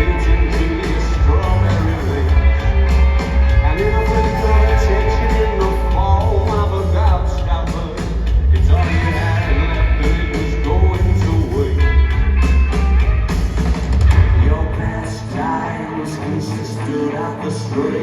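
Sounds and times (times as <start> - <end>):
deep bass line: 0.0 - 15.6
rock band playing live: 0.0 - 18.0.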